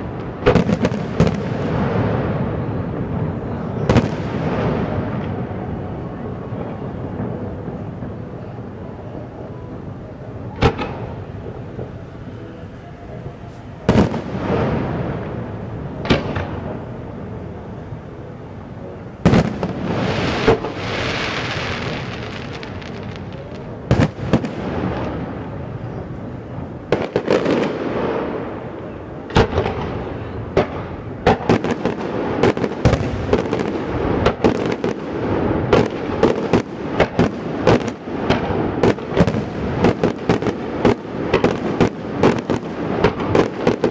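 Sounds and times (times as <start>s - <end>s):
fireworks bangs with rumbling tail: 0.0s - 9.2s, 10.4s - 12.1s, 13.8s - 18.2s, 19.0s - 43.9s
rapid crackling fireworks: 0.0s - 43.9s.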